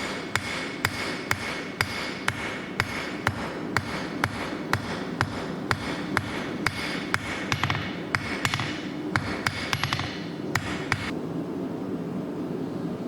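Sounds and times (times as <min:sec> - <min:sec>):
hammer striking steel on anvil: 0:00.0 - 0:11.1.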